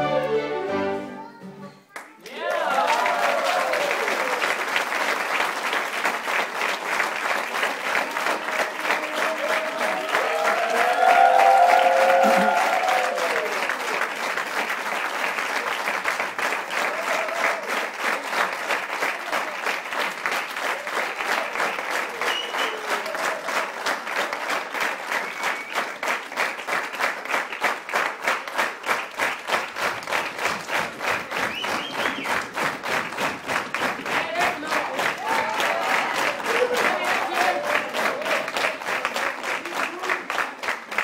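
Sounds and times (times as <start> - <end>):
audience applause: 1.9 - 41.0
rhythmic clapping in unison: 1.9 - 41.0.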